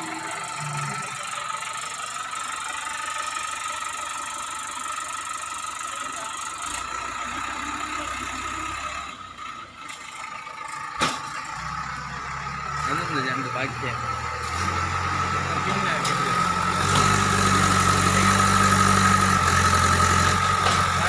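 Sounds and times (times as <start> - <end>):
diesel engine running with whine: 0.0 - 21.0.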